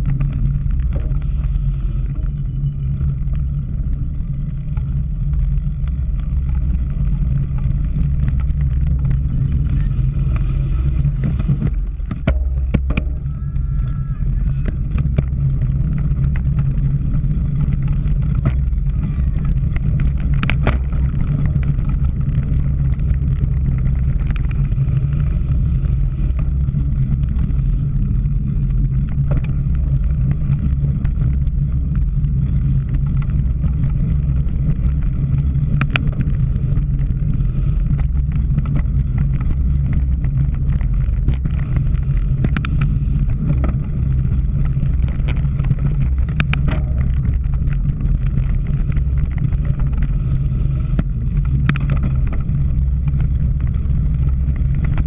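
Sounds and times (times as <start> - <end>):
bike clicks and rattles: 0.0 - 55.0
wind rumble on microphone: 0.0 - 55.0.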